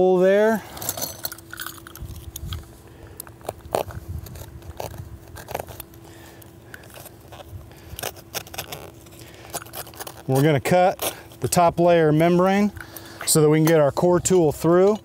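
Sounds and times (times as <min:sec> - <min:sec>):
faint steady hum: 0:00.0 - 0:15.0
hand tools clicking and scraping: 0:00.6 - 0:15.0.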